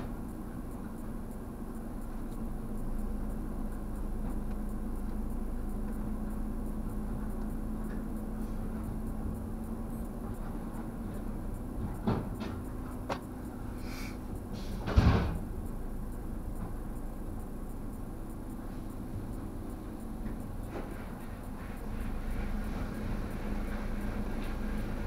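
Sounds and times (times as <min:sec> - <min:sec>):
car wash machinery hum: 0:00.0 - 0:25.0
faint steady tone: 0:00.0 - 0:25.0.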